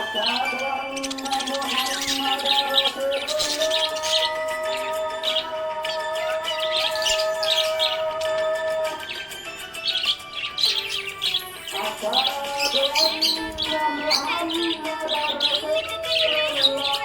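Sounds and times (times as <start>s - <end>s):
background music: 0.0s - 17.0s
parrots chirping: 0.0s - 17.0s.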